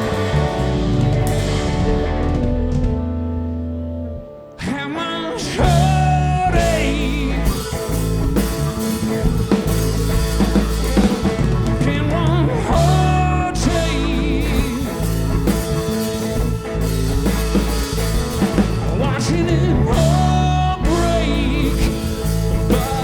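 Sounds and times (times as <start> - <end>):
drum kit: 0.0 - 3.8, 5.6 - 23.0
bass guitar: 0.0 - 23.0
guitars: 0.0 - 23.0
wavering lead guitar notes: 0.0 - 23.0.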